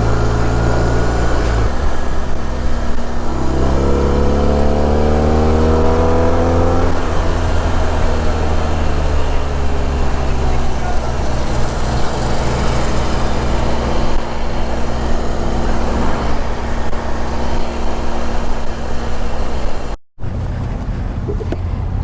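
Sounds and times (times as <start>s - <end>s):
motorcycle engine running: 0.0s - 22.0s
wind and road noise: 0.0s - 22.0s.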